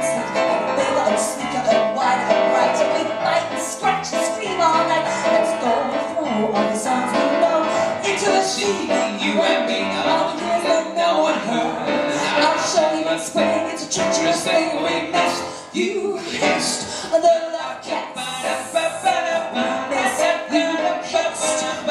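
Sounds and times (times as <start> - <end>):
piano accompaniment: 0.0 - 21.9
woman singing: 0.0 - 21.9.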